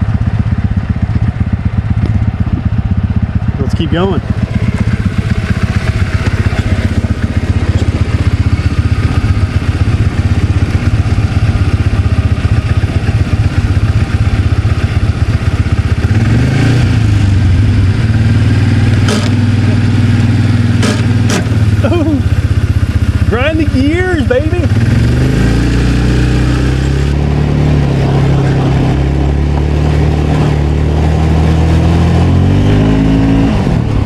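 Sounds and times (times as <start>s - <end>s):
atv engine idling and revving: 0.0s - 34.0s.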